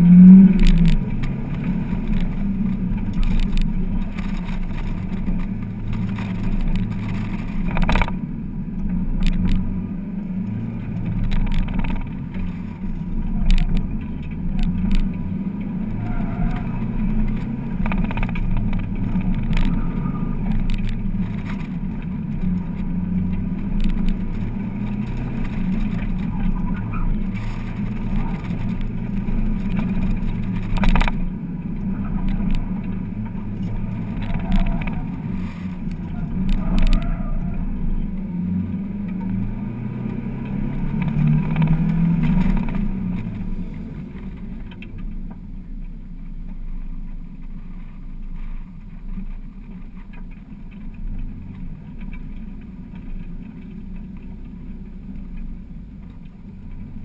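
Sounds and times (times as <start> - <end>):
car engine at full throttle: 0.0 - 57.0.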